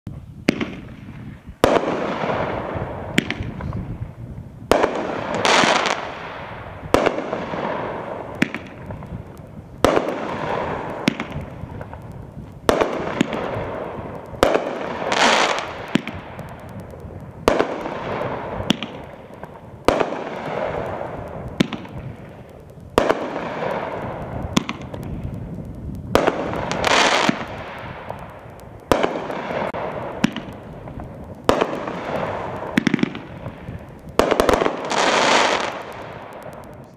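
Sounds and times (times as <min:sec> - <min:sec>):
fireworks hissing tails: 0:00.2 - 0:36.9
fireworks bangs: 0:00.4 - 0:36.9.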